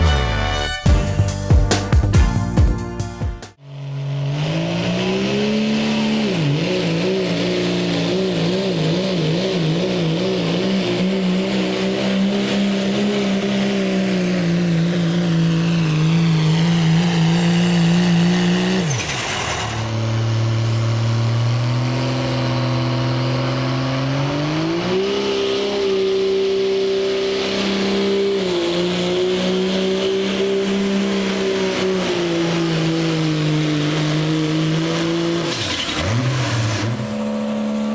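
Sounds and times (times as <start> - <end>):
diesel truck engine at high revs: 3.5 - 37.9.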